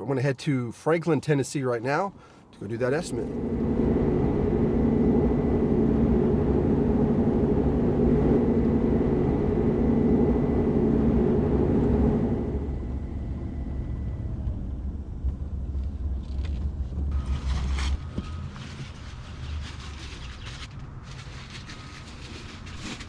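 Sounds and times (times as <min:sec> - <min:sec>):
vehicle engine and road rumble: 0:02.5 - 0:23.0.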